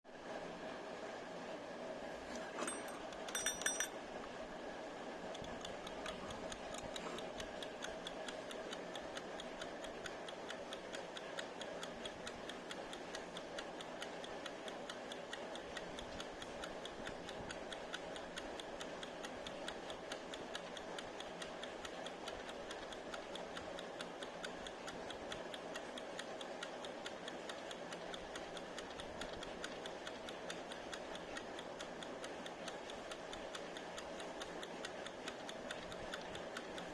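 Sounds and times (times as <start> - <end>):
kitchen timer ticking: 2.3 - 4.1, 5.1 - 36.9.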